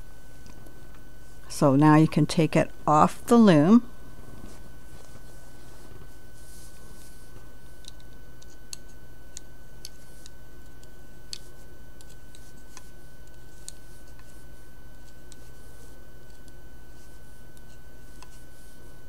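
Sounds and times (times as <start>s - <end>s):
faint high whine: 0.0s - 19.0s
steady low hum: 0.0s - 19.0s.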